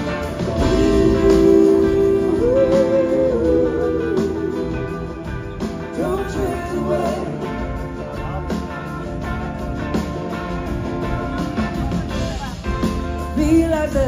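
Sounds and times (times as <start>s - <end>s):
electric slide guitar: 0.0s - 13.4s
live rock band playing: 0.0s - 14.0s.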